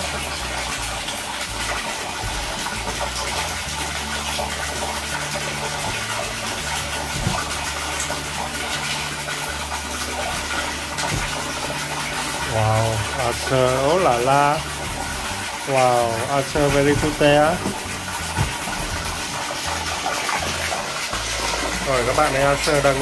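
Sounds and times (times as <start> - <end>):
water pouring into pool: 0.0 - 23.0.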